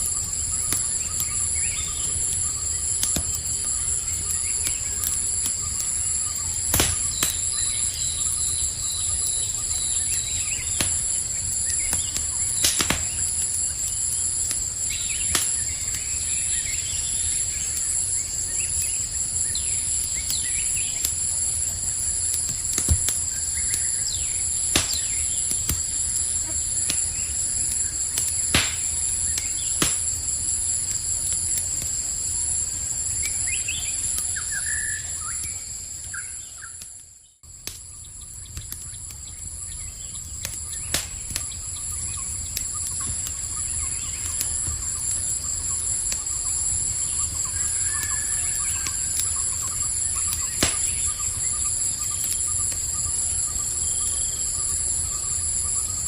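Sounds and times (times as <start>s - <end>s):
campfire crackling and popping: 0.0s - 56.0s
crickets chirping: 0.0s - 56.0s.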